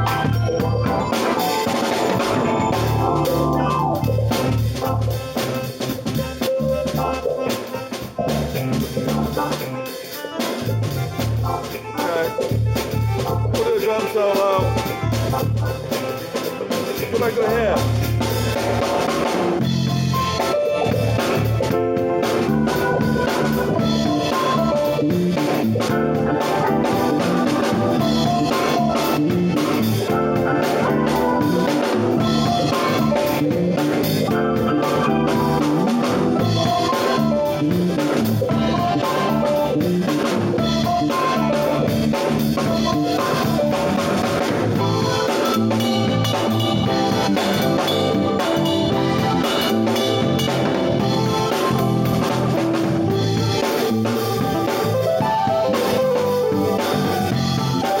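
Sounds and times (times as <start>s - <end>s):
drum kit beat: 0.0s - 58.0s
keyboard ensemble playing: 0.0s - 58.0s.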